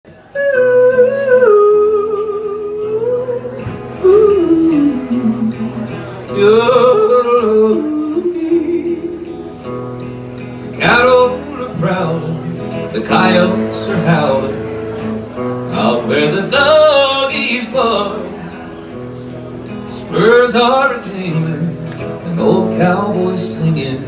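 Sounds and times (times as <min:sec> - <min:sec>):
guitar accompaniment: 0:00.1 - 0:24.0.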